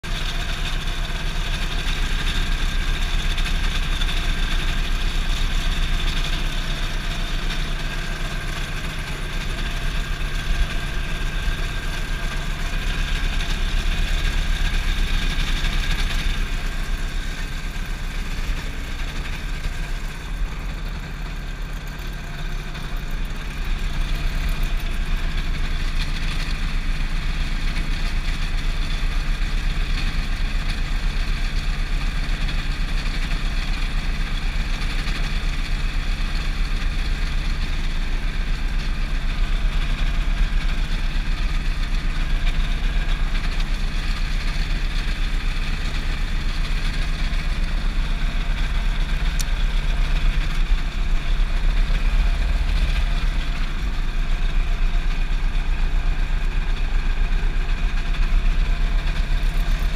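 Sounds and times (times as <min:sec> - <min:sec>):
ultralight engine and propeller drone: 0:00.0 - 0:59.9.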